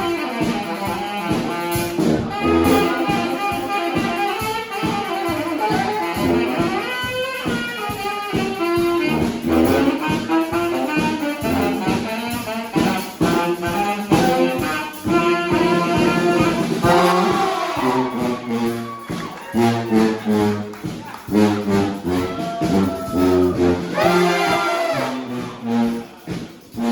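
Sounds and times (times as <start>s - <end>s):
brass band playing: 0.0s - 26.9s.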